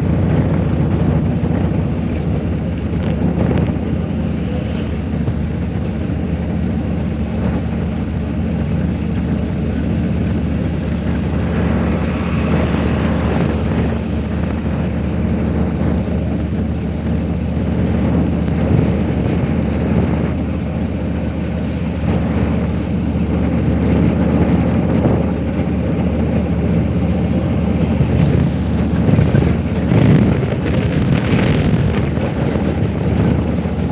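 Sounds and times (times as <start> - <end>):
car engine and tyre drone: 0.0 - 33.9
wind noise: 0.0 - 33.9.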